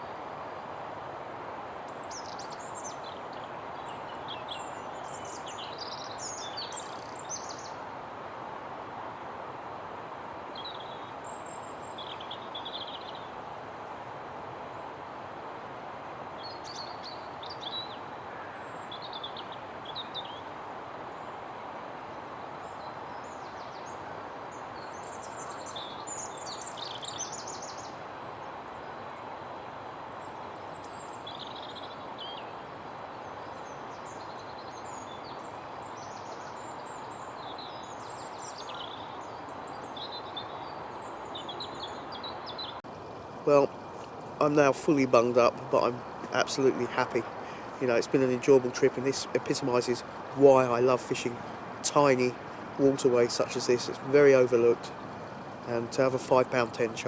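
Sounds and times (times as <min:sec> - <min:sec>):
small birds chirping: 0:01.6 - 0:07.8, 0:10.1 - 0:13.4, 0:16.4 - 0:21.5, 0:22.4 - 0:29.4, 0:30.1 - 0:57.0.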